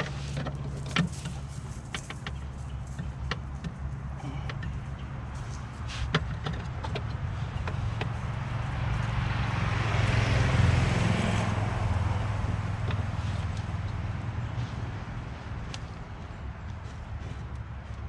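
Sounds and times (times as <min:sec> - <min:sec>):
rushing vehicle noise: 0:00.0 - 0:18.0.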